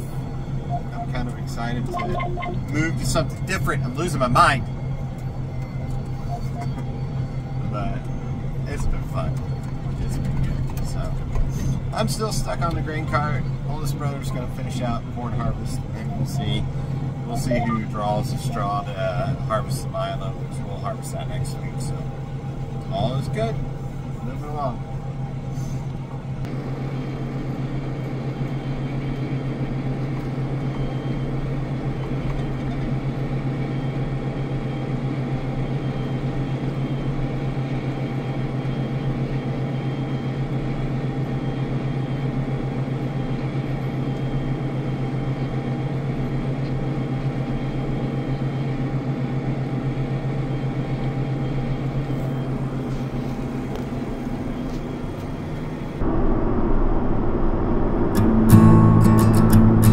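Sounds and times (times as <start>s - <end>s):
tractor engine droning: 0.0s - 34.6s, 38.0s - 59.9s.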